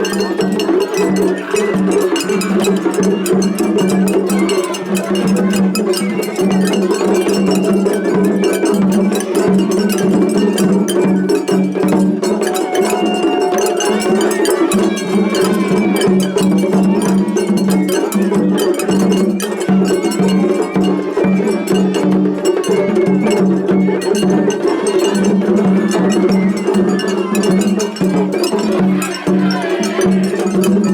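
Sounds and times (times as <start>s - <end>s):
bamboo flute: 0.0s - 30.9s
drums: 0.0s - 30.9s.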